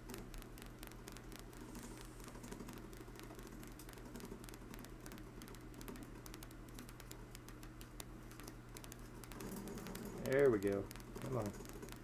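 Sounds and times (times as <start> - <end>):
rotary switch contacts clicking rapidly: 0.0 - 12.0
steady low hum: 0.0 - 12.0.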